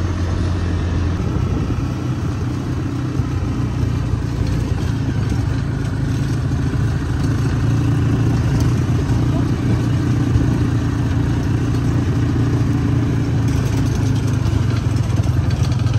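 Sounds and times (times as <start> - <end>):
off-road vehicle engine: 0.0 - 15.9.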